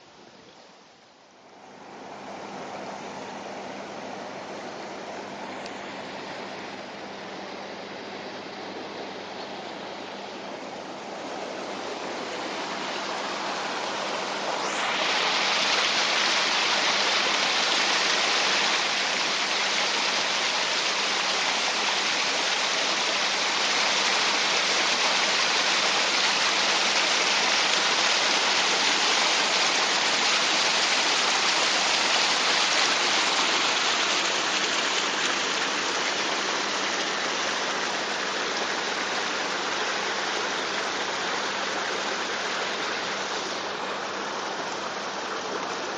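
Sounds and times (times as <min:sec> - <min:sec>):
water gushing from hoses: 0:01.7 - 0:45.9.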